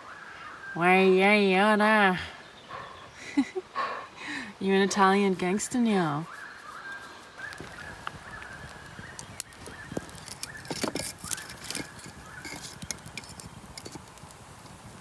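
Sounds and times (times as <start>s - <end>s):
dry wood crackling: 2.6s - 15.0s.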